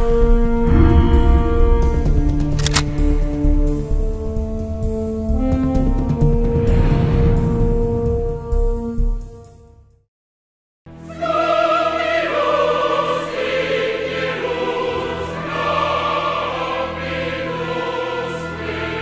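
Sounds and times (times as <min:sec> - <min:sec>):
choir singing sustained notes: 0:00.0 - 0:08.8, 0:10.9 - 0:19.0.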